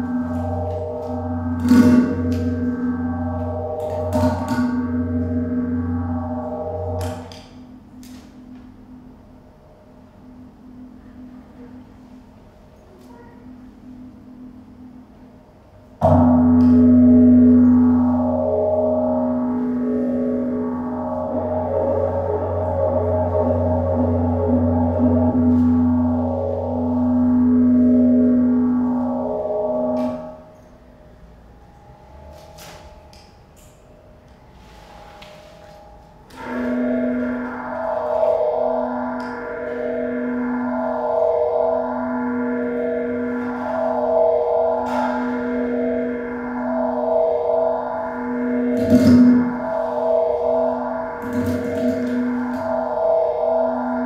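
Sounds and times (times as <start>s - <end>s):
sweeping phasing shimmer: 0.0s - 12.5s, 15.8s - 54.0s
gong-like metal percussion ringing: 0.0s - 54.0s.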